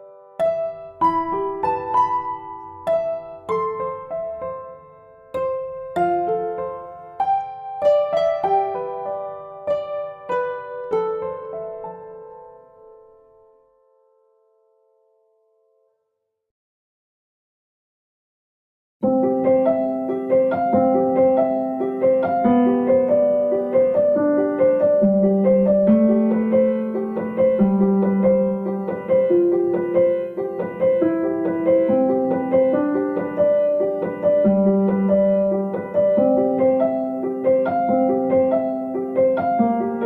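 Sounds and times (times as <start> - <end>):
slow piano melody: 0.0 - 16.0, 19.0 - 40.0.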